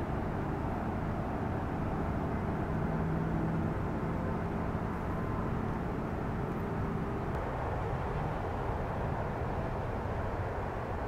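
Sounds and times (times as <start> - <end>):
distant road traffic rumble: 0.0 - 11.0
faint engine hum: 0.0 - 11.0.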